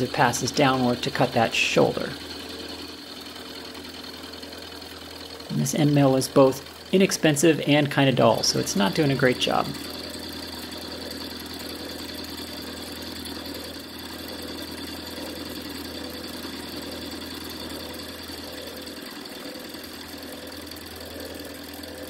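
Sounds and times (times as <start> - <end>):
milling machine cutting metal: 0.0 - 22.0.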